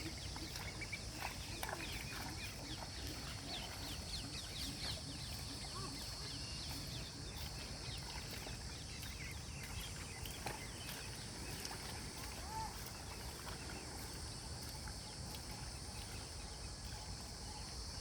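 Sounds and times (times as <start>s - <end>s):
birds chirping: 0.0s - 18.0s
high insect drone: 0.0s - 18.0s.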